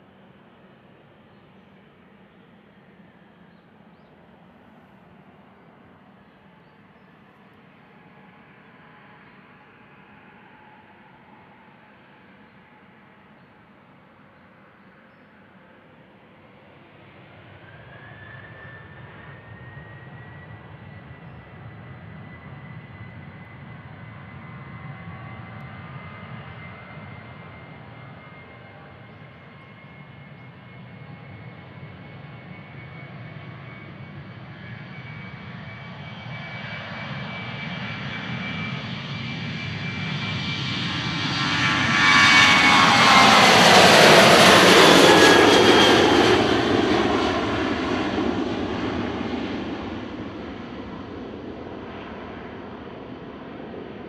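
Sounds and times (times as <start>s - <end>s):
jet engines roaring at takeoff: 0.0s - 54.0s.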